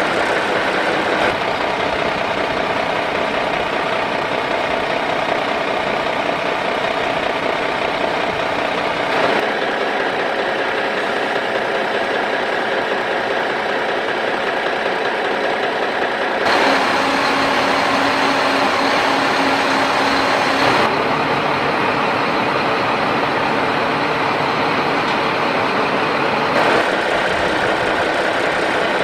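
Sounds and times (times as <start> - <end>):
engine-like running noise: 0.0 - 29.0.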